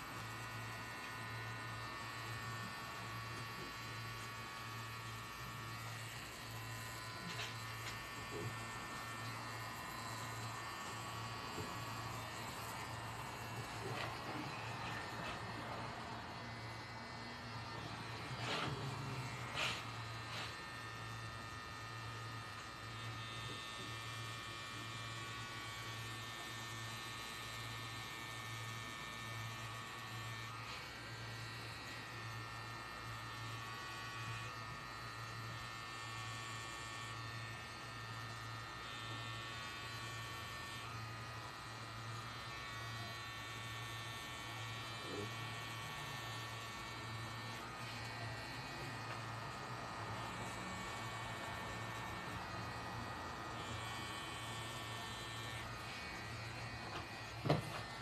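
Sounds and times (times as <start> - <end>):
tattoo machine humming: 0.0 - 58.0.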